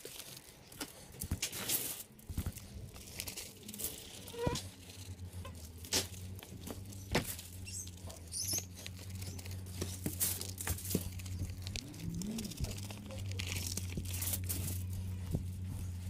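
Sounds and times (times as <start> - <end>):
low steady hum: 0.0 - 16.0
packet rustling: 0.0 - 16.0.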